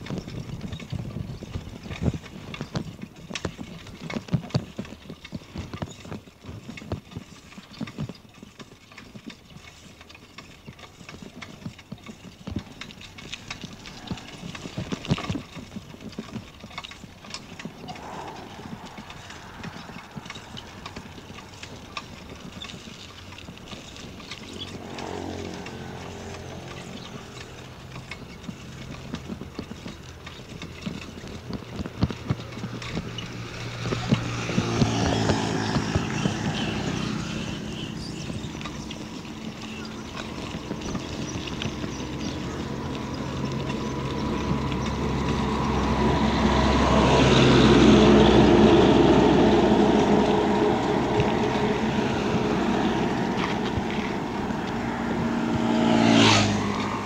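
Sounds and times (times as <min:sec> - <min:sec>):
bicycle rattling on concrete: 0:00.0 - 0:57.0
engine hum: 0:00.0 - 0:57.0.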